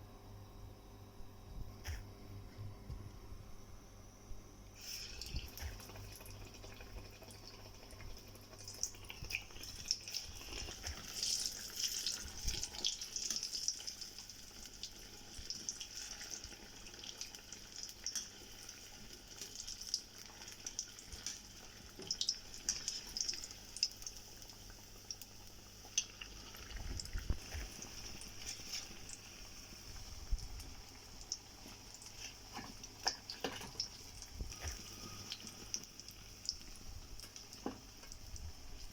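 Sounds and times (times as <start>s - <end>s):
food deep-frying in hot oil: 4.8s - 38.9s.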